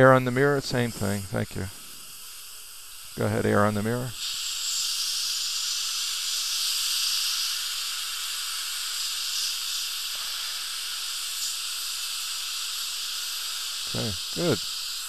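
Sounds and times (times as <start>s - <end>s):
dental air and water spray hiss: 0.0s - 15.0s
dental drill cutting tooth: 0.0s - 15.0s.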